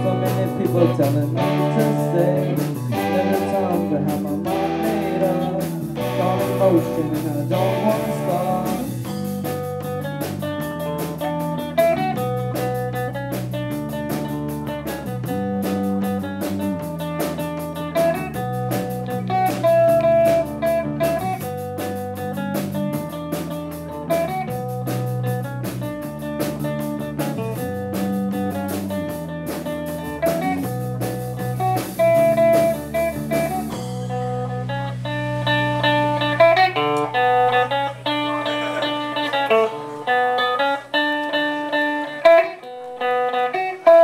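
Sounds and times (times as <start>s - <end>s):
steady drum beat: 0.0s - 42.2s
bass guitar: 0.0s - 44.0s
electric guitars: 0.0s - 44.0s.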